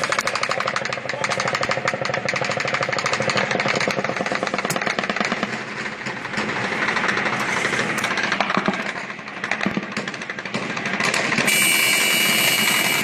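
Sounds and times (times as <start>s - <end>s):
low engine hum: 0.0s - 13.0s
rapid gunfire: 0.0s - 13.0s.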